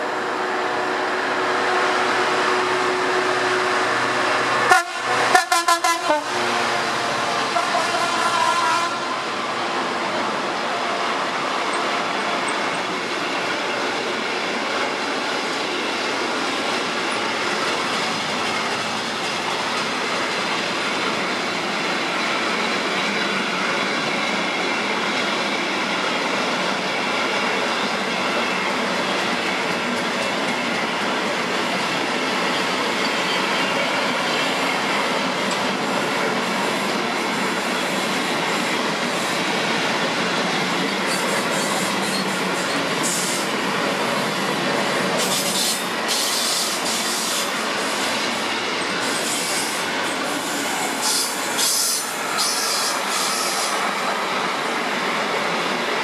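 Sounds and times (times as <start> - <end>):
freight wagon wheels on rail: 0.0 - 56.0.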